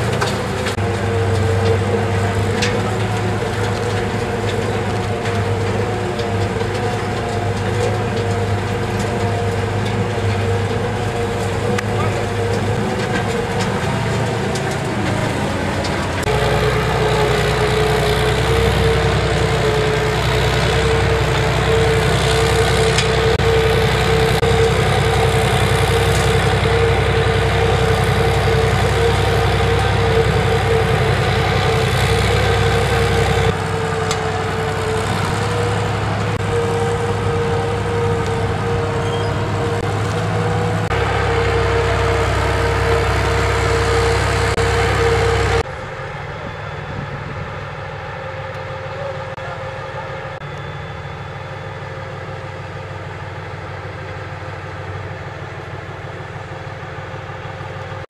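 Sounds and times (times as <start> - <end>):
constant machine whine: 0.0 - 58.0
diesel engine rumble: 0.0 - 58.0.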